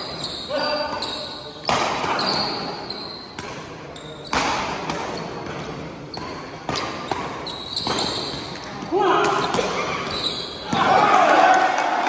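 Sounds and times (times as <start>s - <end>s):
shoes squeaking on court: 0.0s - 10.9s.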